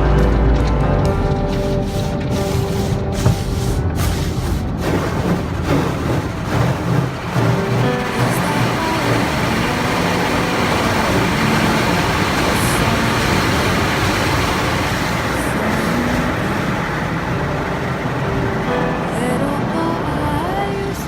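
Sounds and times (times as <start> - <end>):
car wash spraying water: 1.2 - 21.0.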